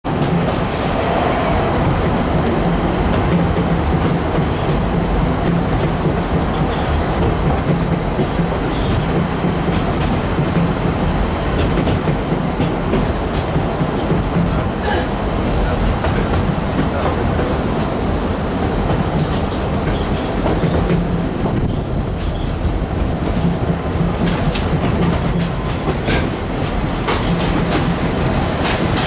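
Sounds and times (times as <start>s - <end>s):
train wheels rattling on rails: 0.0s - 29.0s.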